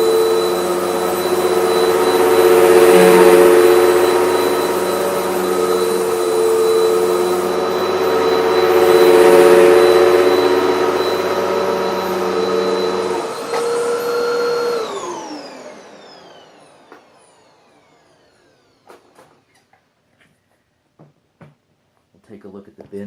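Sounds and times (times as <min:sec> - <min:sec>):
motor winding down: 0:00.0 - 0:19.0
vacuum cleaner running: 0:00.0 - 0:19.6.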